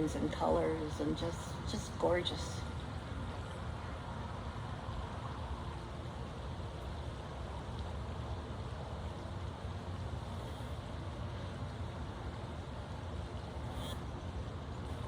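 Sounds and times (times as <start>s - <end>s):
faint hum: 0.0s - 15.0s
low outdoor rumble: 0.0s - 15.0s.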